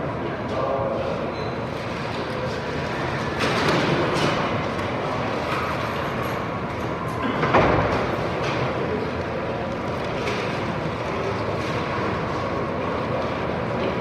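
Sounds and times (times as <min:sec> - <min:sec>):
echoing crowd noise: 0:00.0 - 0:14.0.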